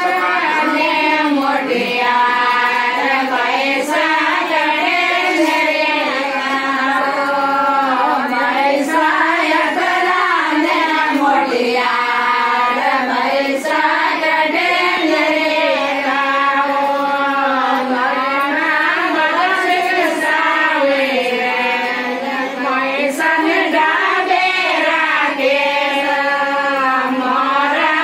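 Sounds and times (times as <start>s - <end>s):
women singing together: 0.0s - 28.0s.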